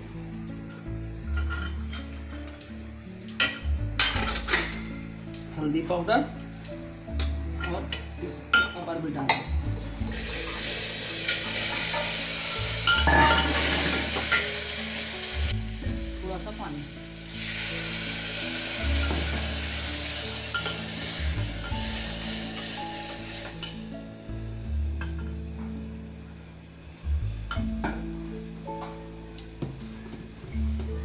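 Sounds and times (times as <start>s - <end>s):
food sizzling in oil: 0.4s - 30.5s.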